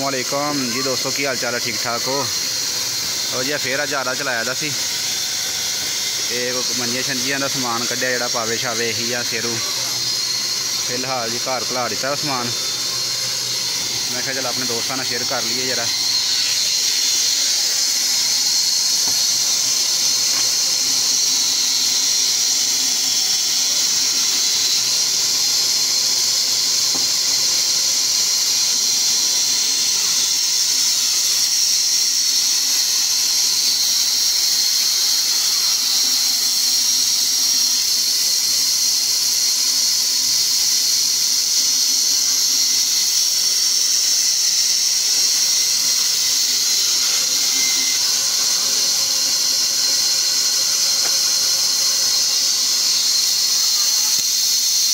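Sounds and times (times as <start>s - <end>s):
band saw cutting wood: 0.0s - 54.9s.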